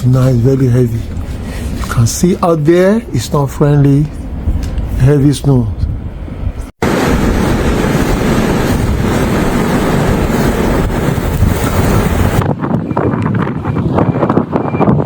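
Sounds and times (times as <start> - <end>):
blizzard wind on microphone: 0.8 - 15.0.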